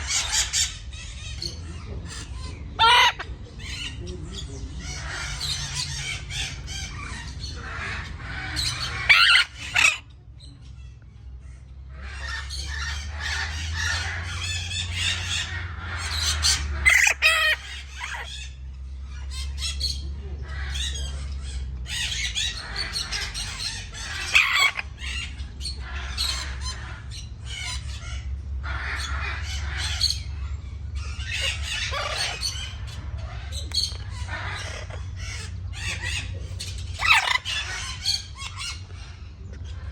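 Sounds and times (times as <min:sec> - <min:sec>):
parrots squawking and chattering: 0:00.0 - 0:39.9
steady low rumble: 0:00.0 - 0:39.9.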